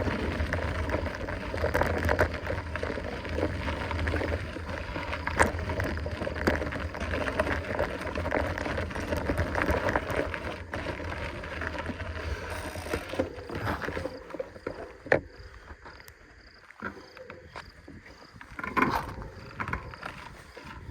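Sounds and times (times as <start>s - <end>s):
wind rumble on microphone: 0.0s - 14.0s, 17.4s - 20.9s
bike tyres on dirt trail: 0.0s - 20.9s.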